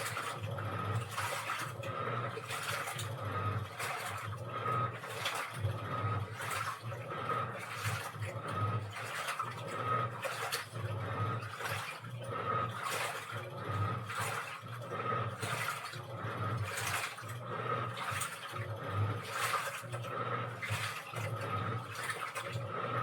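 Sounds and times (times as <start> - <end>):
low motor hum: 0.0 - 23.0
water sloshing in washing machine: 0.0 - 23.0.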